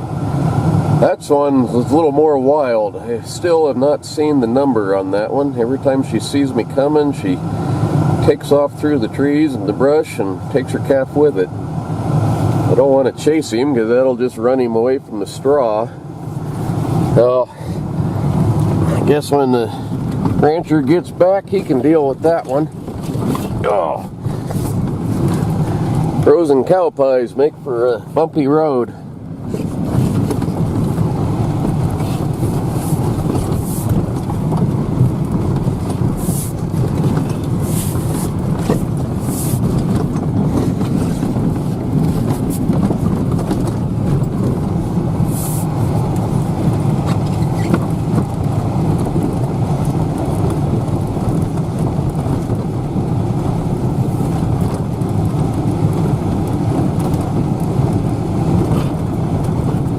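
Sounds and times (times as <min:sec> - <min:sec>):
tractor engine running: 0:00.0 - 0:59.9
rattles and knocks over bumps: 0:00.6 - 0:59.9.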